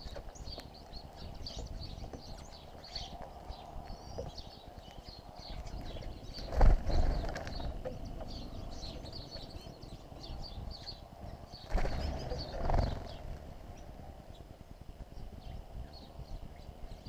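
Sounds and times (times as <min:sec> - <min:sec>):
wings fluttering: 0:00.0 - 0:10.1, 0:11.2 - 0:15.6
small birds chirping: 0:00.0 - 0:17.0.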